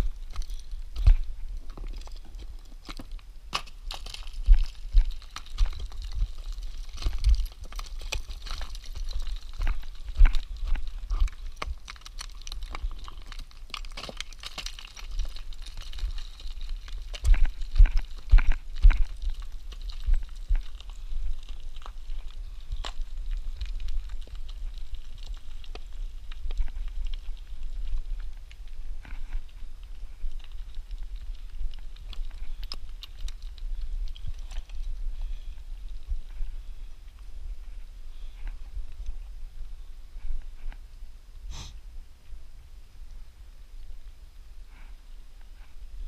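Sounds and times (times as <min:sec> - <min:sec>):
footsteps on rock and loose stones: 0:00.0 - 0:40.8.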